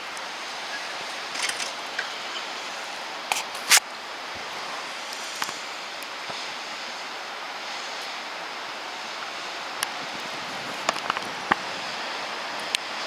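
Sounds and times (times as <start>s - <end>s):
snowstorm hiss: 0.0s - 13.0s.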